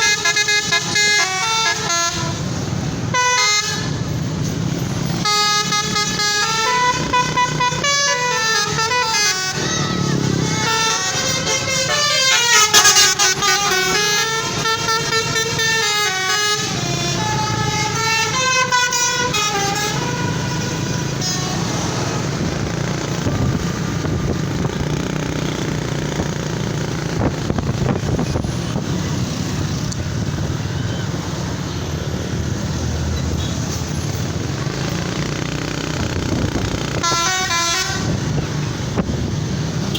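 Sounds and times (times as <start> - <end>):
multi-tone bus horn tune: 0.0 - 31.9, 33.2 - 39.9
engines and traffic: 0.0 - 39.9.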